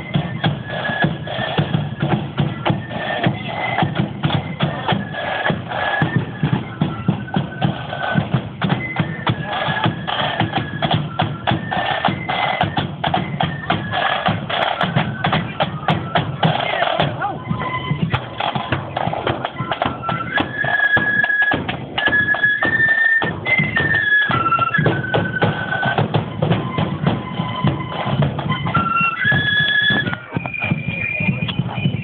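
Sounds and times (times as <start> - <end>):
marching band melody: 0.0 - 32.0
snare and bass drums: 0.0 - 32.0.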